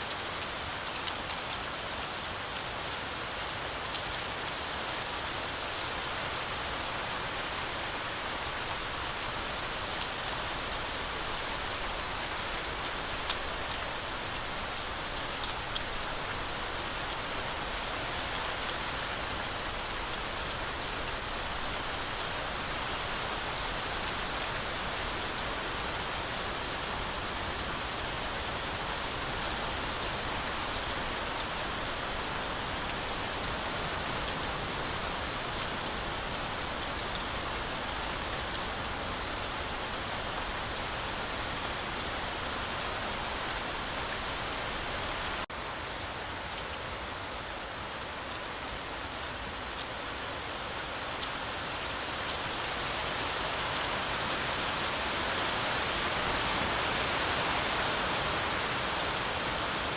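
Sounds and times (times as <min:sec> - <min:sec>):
heavy rain through trees: 0:00.0 - 0:59.9.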